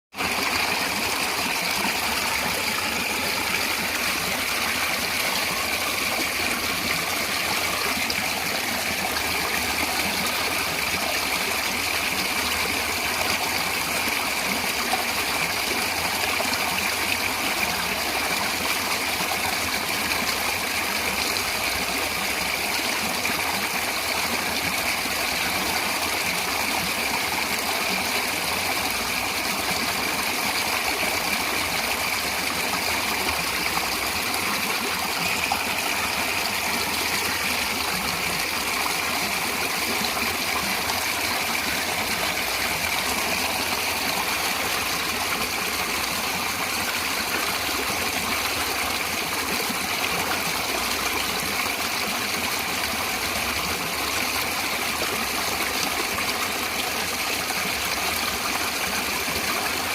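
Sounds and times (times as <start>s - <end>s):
running water flowing: 0.2s - 59.9s.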